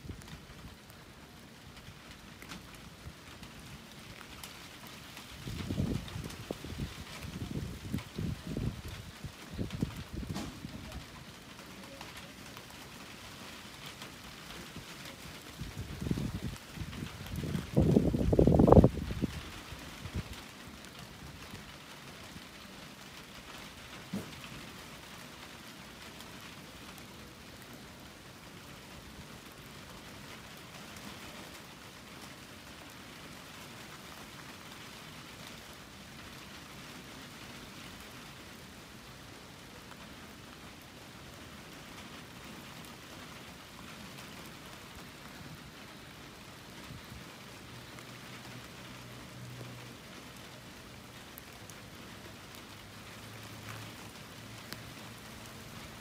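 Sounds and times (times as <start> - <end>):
light rain falling: 0.0 - 56.0
raindrop ticks: 0.0 - 56.0.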